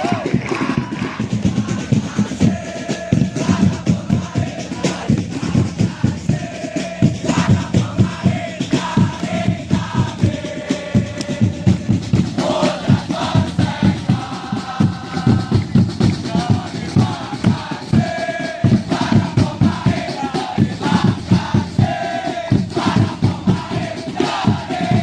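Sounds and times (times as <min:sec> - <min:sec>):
crowd singing a chant: 0:00.0 - 0:25.0
fast drum beat: 0:00.0 - 0:25.0.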